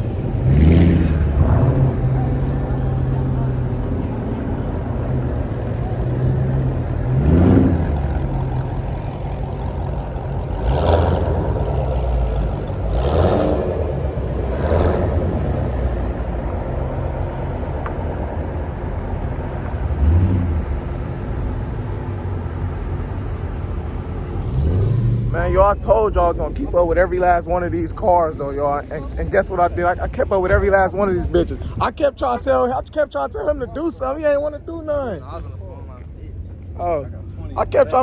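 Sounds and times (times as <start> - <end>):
car engine revving: 0.0 - 35.7.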